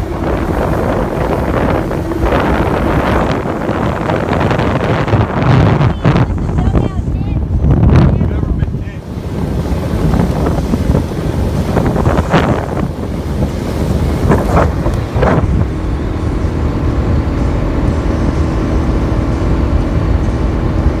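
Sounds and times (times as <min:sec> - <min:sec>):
motorboat motor droning: 0:00.0 - 0:21.0
water splashing: 0:00.0 - 0:21.0
wind buffeting microphone: 0:00.0 - 0:21.0.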